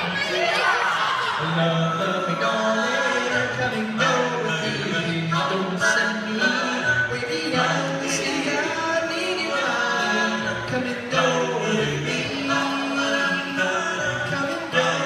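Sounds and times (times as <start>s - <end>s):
vocal group singing a cappella: 0.0s - 15.0s.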